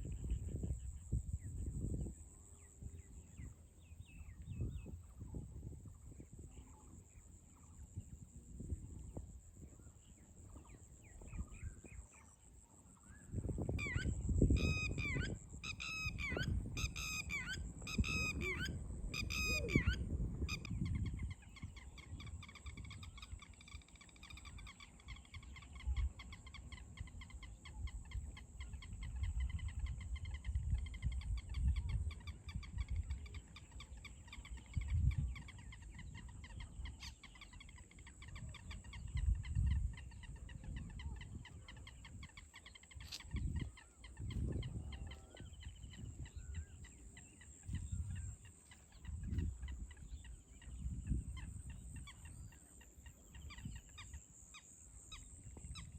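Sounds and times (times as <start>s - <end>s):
bird calling: 10.5s - 55.9s.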